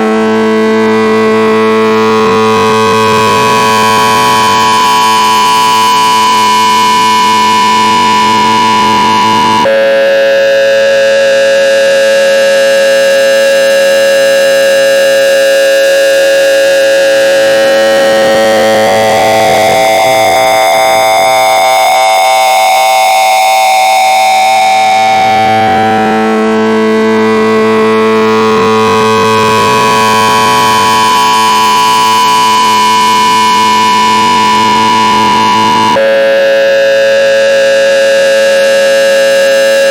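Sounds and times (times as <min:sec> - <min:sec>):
harsh electronic tone: 0:00.0 - 0:39.9.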